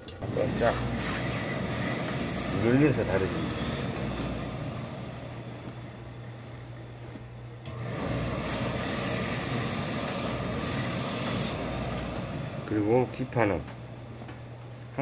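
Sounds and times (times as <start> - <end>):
steam iron hissing: 0.2 - 6.8, 7.7 - 13.6.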